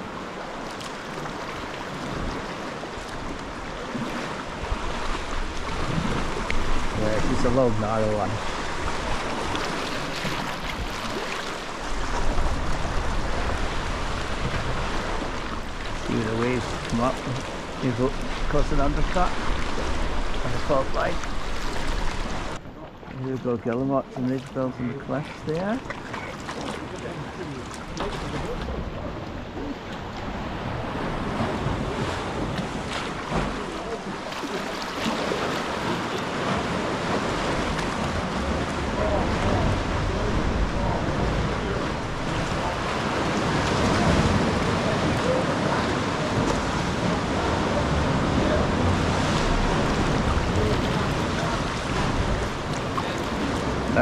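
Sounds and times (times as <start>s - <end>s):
sea water splashing: 0.0s - 54.0s.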